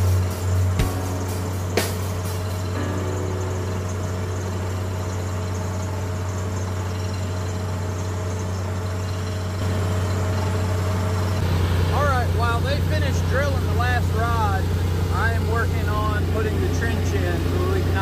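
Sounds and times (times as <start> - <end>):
drilling rig engine humming: 0.0 - 18.0.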